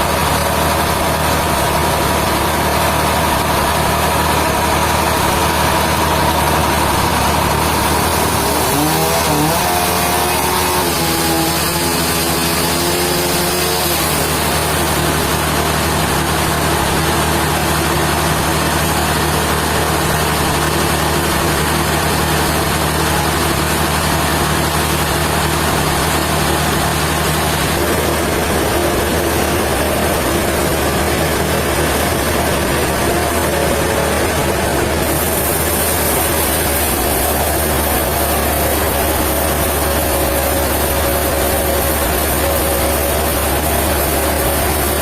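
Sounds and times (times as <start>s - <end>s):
pitched machine whine: 0.0s - 45.0s
sawmill machinery humming: 0.0s - 45.0s.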